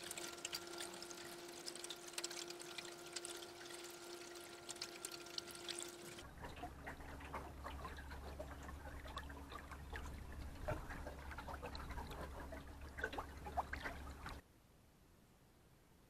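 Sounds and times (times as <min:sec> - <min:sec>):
water splashing against boat: 0:00.0 - 0:14.4
low steady hum: 0:00.0 - 0:16.0.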